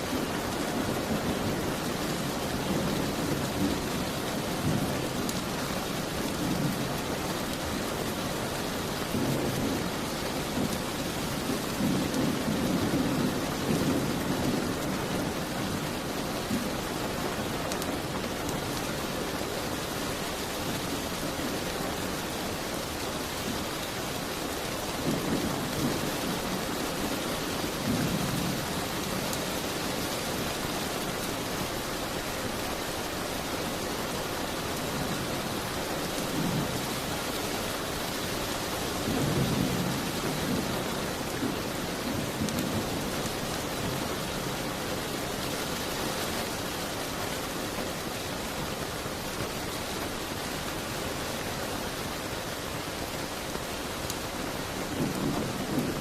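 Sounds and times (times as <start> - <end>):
rain beating on a window: 0.0 - 56.0.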